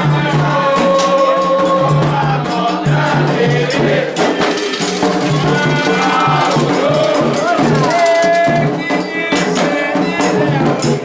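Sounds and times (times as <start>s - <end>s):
group of voices chanting: 0.0s - 11.0s
percussion with rattles: 0.0s - 11.0s.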